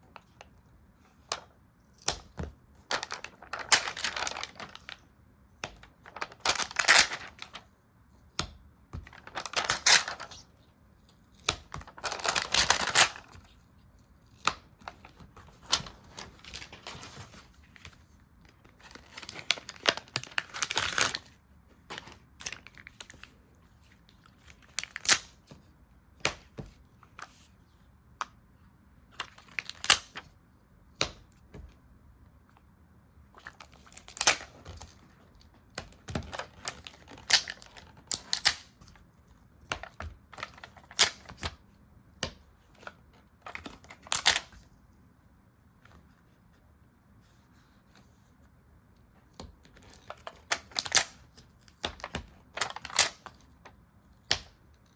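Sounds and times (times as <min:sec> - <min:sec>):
paper and stickers crinkling: 0:00.1 - 0:27.8, 0:29.1 - 0:30.4, 0:33.3 - 0:44.9, 0:49.3 - 0:54.9.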